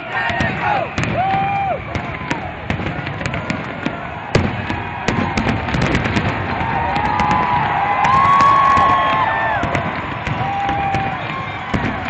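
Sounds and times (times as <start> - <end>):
crowd noise: 0.0 - 12.0
fireworks crackling and popping: 0.0 - 12.0
loud firework bang: 0.3 - 12.0.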